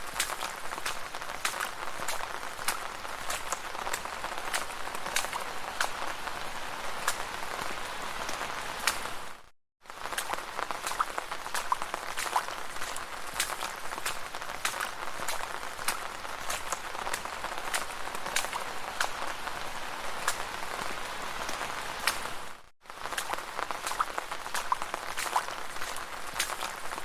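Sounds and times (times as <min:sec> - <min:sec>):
rain falling on a street: 0:00.0 - 0:27.0
raindrops ticking: 0:00.0 - 0:27.0.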